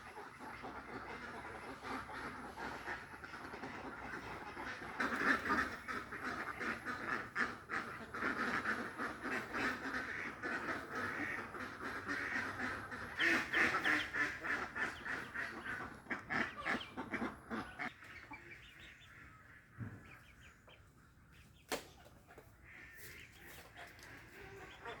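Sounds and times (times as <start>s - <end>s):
ducks quacking: 0.0s - 25.0s.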